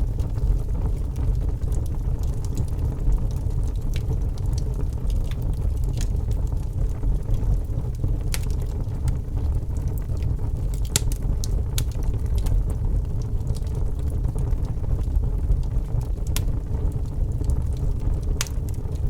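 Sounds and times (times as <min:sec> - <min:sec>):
fire rumbling in fireplace: 0:00.0 - 0:19.0
wood crackling and popping: 0:00.0 - 0:19.0.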